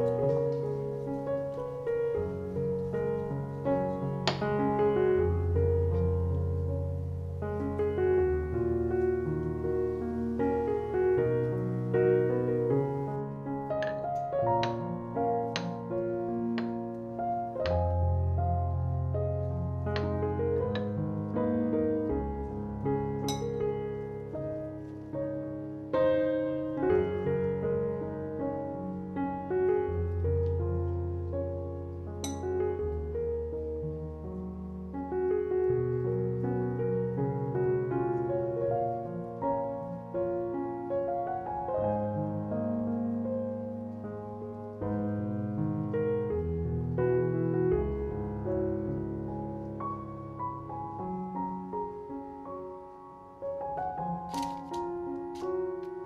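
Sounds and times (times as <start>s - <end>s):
slow gentle piano music: 0.0s - 56.0s.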